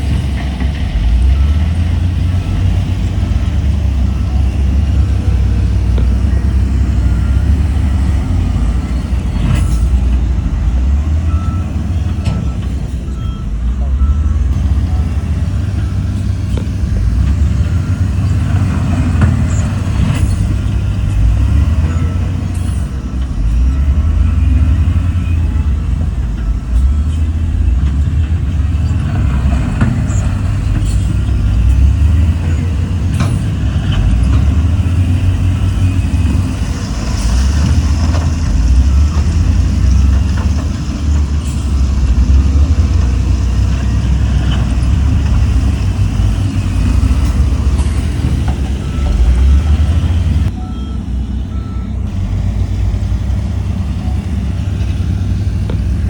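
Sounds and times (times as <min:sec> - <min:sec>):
knocks and clanks: 0:00.0 - 0:50.6
heavy diesel machinery droning: 0:00.0 - 0:56.0.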